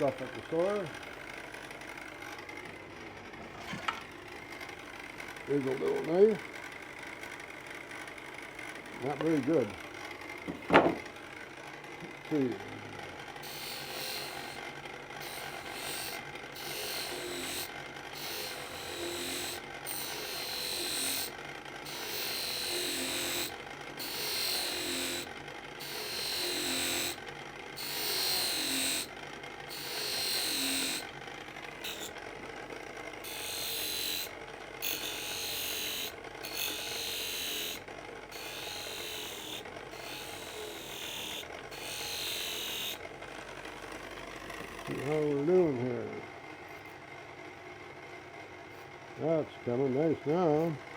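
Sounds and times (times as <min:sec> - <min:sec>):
electric motor running: 0:00.0 - 0:47.5.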